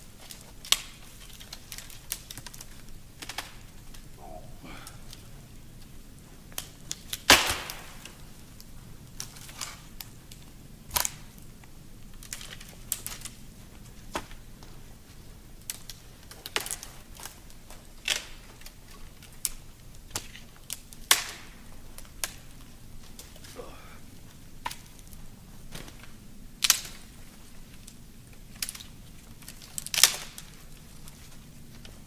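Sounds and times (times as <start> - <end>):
dry branches snapping: 0.2 - 14.7, 15.6 - 32.0.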